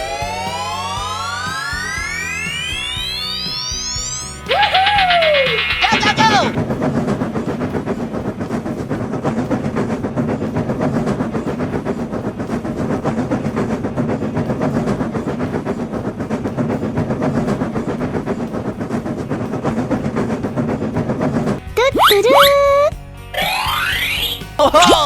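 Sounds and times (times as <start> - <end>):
train running along rails: 0.0 - 22.0.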